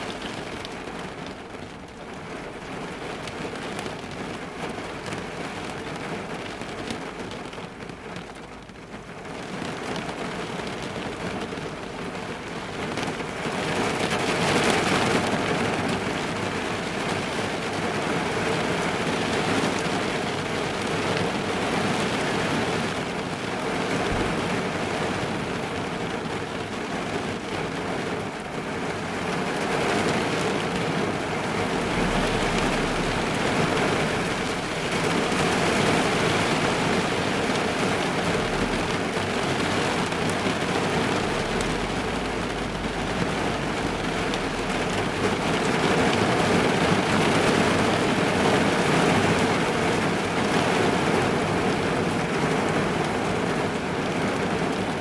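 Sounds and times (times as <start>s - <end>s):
rain on a car roof: 0.0s - 55.0s.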